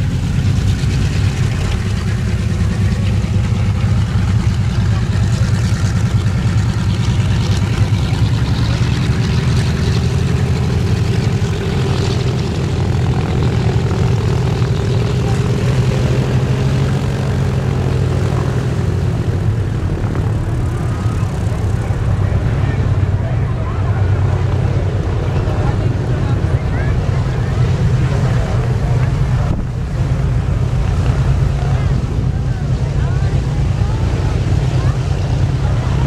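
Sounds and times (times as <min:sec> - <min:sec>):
aircraft radial engines droning: 0:00.0 - 0:36.0.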